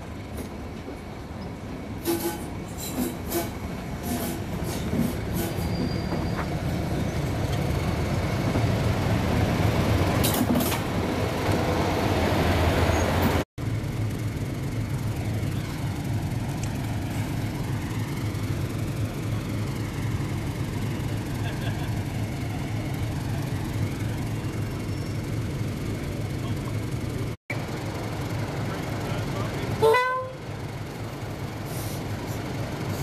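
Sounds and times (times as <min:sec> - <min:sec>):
diesel locomotive engine rumble: 0:00.0 - 0:33.0.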